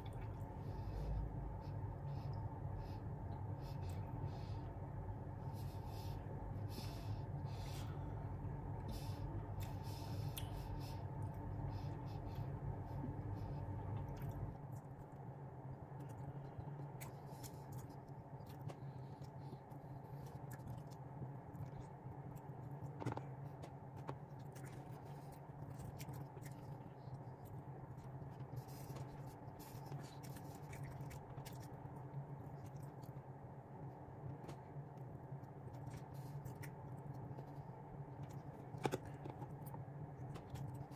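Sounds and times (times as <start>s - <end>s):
low hum: 0.0s - 40.9s.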